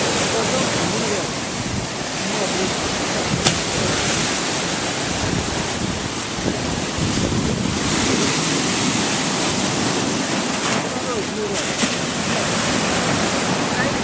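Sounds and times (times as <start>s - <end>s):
sea surf washing in: 0.0s - 14.0s
wind rumbling on microphone: 0.0s - 14.0s.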